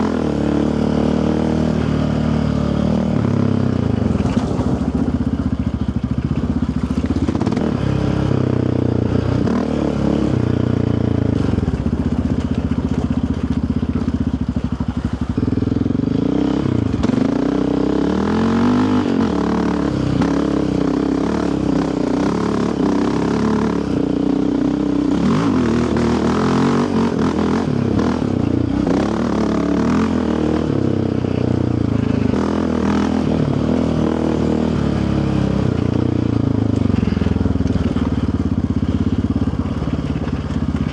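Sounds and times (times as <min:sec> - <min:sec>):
quad engine revving: 0:00.0 - 0:40.9.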